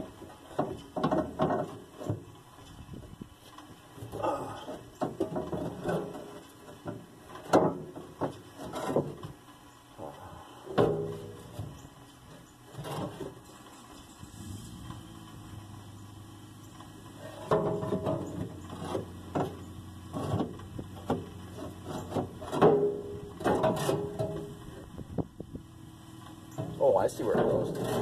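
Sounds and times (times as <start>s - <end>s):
metal clunks and scrapes: 0.0s - 2.8s, 3.5s - 9.4s, 10.6s - 15.1s, 16.8s - 25.0s, 26.2s - 28.0s.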